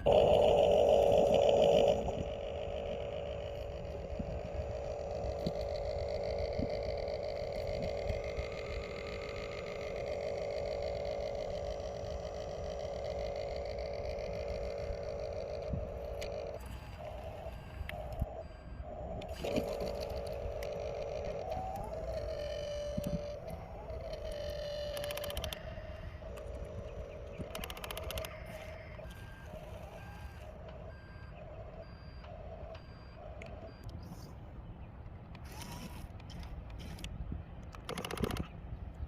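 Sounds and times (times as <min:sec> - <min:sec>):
warning alarm beeping: 0:00.0 - 0:34.3
whining tone bending in pitch: 0:00.0 - 0:34.6
excavator engine rumble: 0:00.0 - 0:39.0.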